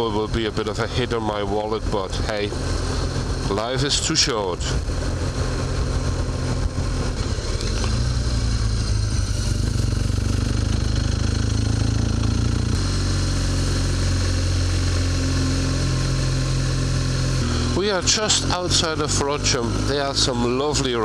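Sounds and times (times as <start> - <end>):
motorcycle engine running: 0.0 - 21.0
road rush: 0.0 - 21.0.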